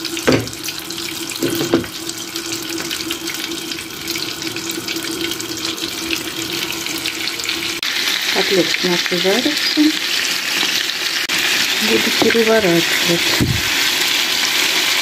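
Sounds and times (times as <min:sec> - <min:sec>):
butter sizzling in frying pan: 0:00.0 - 0:15.0.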